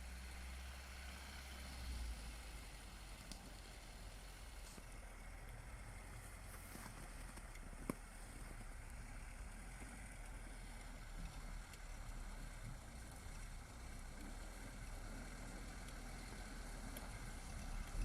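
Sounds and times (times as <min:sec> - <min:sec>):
car rumbling on the move: 0:00.0 - 0:18.0.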